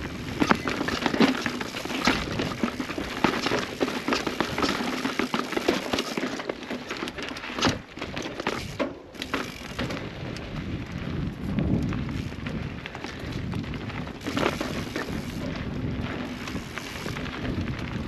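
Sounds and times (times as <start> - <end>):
bike clicks and rattles: 0.0 - 18.0
tyres crunching over dirt: 0.0 - 18.0.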